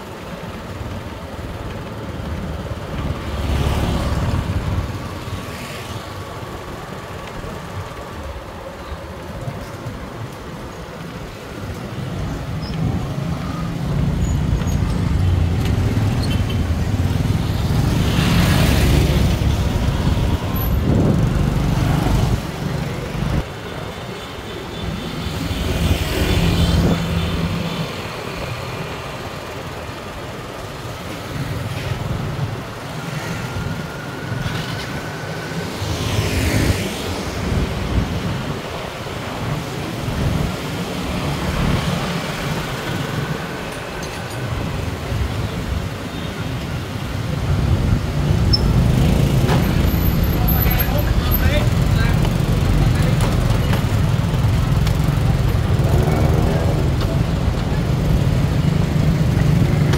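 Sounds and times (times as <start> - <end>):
vehicles passing close by: 0.0 - 59.9.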